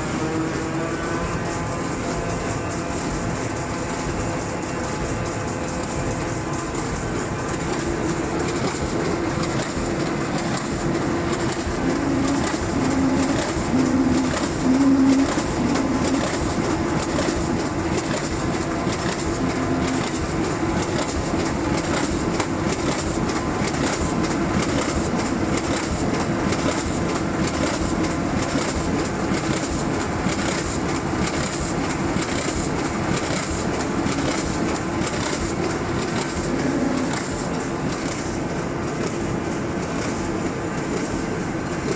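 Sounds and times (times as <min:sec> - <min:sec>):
printing machine clattering: 0:00.0 - 0:41.9
rapid rhythmic clicking: 0:00.0 - 0:41.9
steady machine hum: 0:00.0 - 0:41.9.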